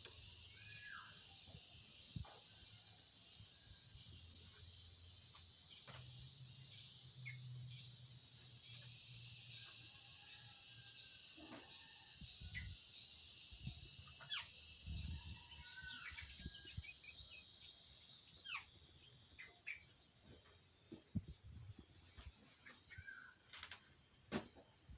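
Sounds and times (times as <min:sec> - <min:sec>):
high-pitched hiss: 0:00.0 - 0:24.9.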